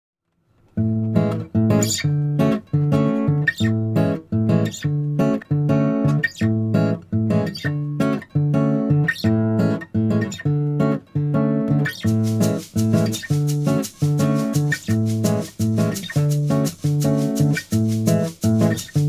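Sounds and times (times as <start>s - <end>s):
bossa nova acoustic guitar: 0.7s - 19.0s.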